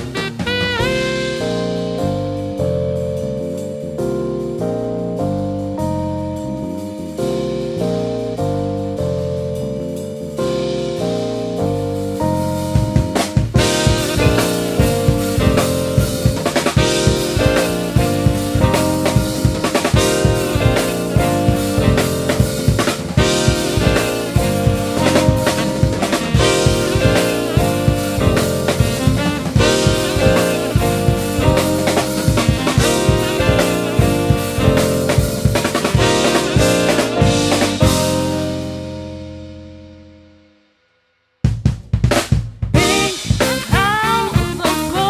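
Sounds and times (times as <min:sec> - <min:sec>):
drum kit beat: 0:00.0 - 0:39.5, 0:41.4 - 0:45.0
electric guitar melody: 0:00.0 - 0:40.2, 0:42.8 - 0:45.0.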